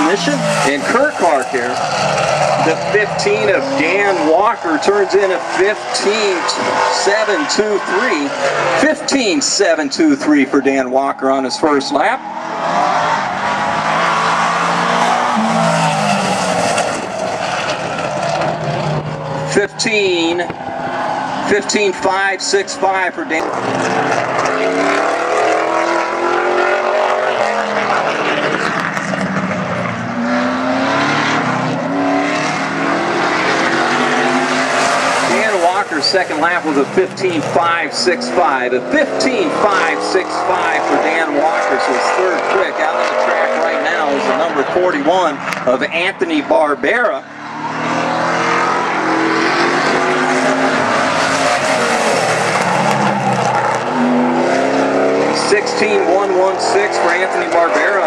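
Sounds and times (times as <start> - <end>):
race car engine running hard: 0.0 - 10.3, 11.1 - 58.0.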